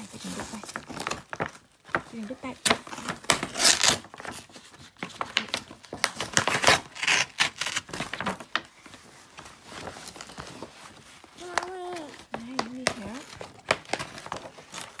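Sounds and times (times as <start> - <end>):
plastic and cardboard crinkling: 0.0 - 15.0.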